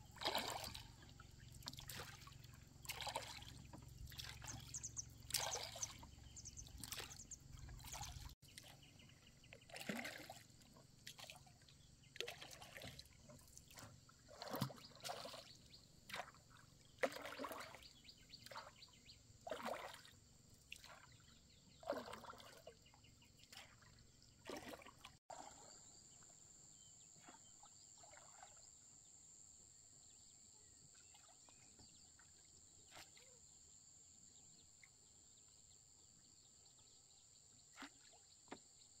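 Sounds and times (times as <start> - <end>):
water splashing and trickling: 0.0 - 29.0, 30.8 - 36.3, 37.0 - 39.0.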